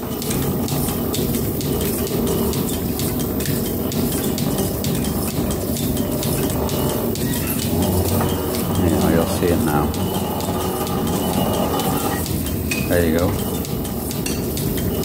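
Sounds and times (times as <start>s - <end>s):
metal planer running: 0.0s - 15.0s
metallic ticking and clatter: 0.0s - 15.0s.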